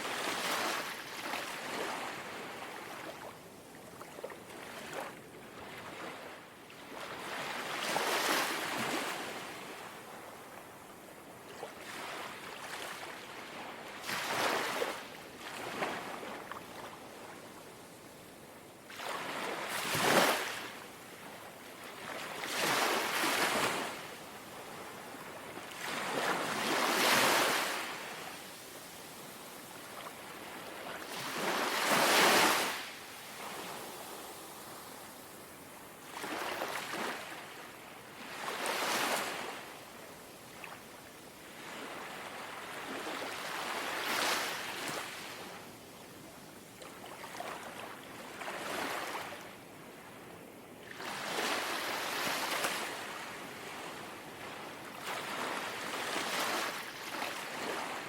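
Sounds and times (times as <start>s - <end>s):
gentle waves lapping on shore: 0.0s - 58.0s.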